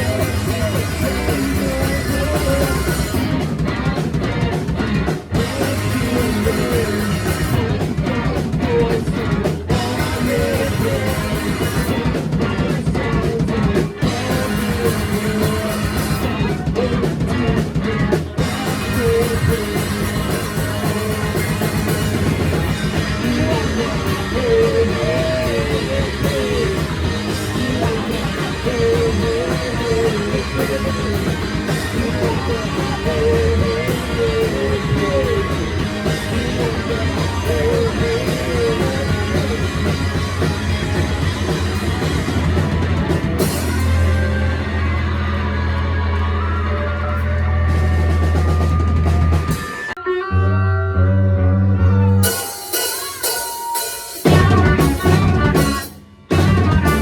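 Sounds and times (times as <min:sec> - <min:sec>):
drum kit: 0:00.0 - 0:50.0, 0:52.2 - 0:57.0
bass guitar: 0:00.0 - 0:57.0
electric guitars: 0:00.0 - 0:57.0.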